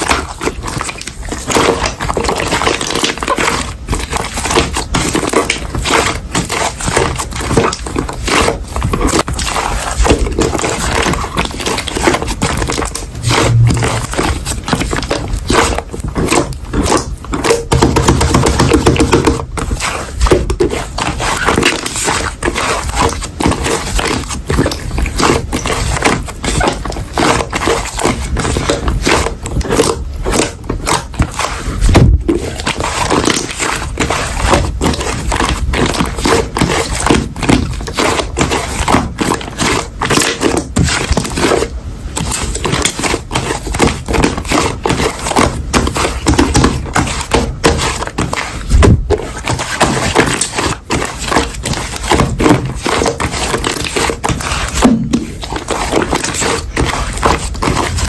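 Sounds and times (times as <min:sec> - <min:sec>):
hands squishing slime: 0:00.0 - 0:58.0.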